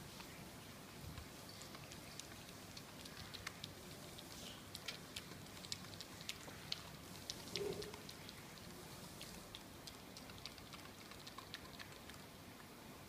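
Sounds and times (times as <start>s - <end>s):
dog licking and gnawing meat: 0.0s - 12.7s.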